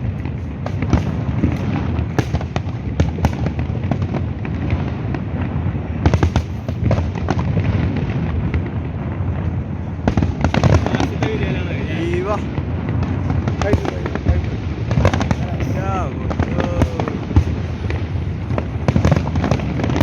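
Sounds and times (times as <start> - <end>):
fireworks bangs and pops: 0.0 - 20.0
fireworks rumbling: 0.0 - 20.0.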